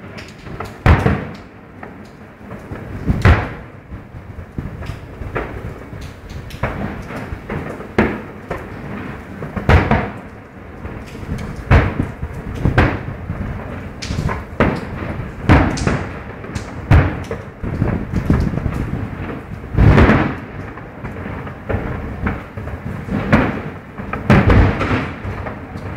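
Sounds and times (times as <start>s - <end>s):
fireworks booming: 0.0s - 25.9s
rumbling echo: 0.0s - 25.9s.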